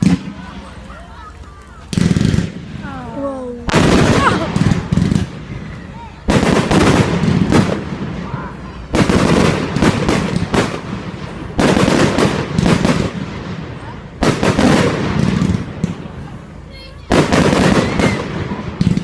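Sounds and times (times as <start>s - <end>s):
fireworks bangs with crackling: 0.0s - 19.0s.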